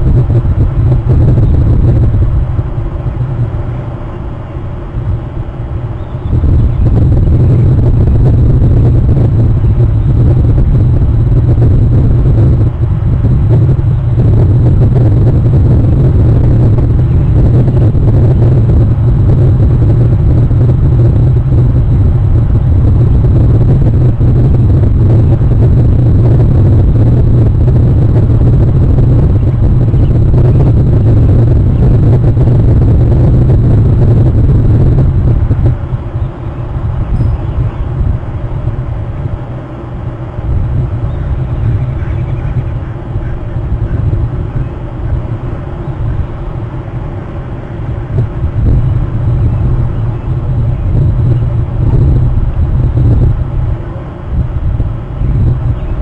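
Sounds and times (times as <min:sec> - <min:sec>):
loud low rumble: 0:00.0 - 0:56.0.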